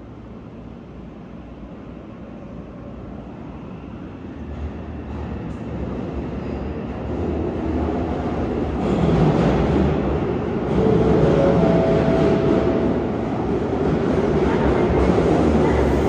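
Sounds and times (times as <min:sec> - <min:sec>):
subway train rumbling in tunnel: 0:00.0 - 0:16.0.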